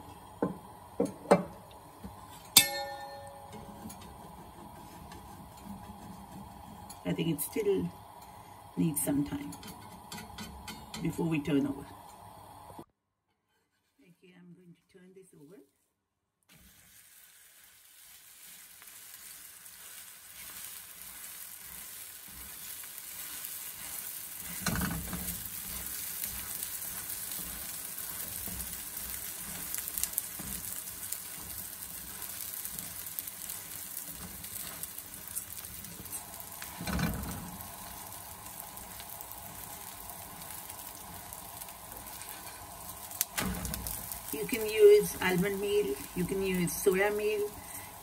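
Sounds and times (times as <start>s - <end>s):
batter sizzling on griddle: 0.0s - 8.8s, 16.5s - 48.0s.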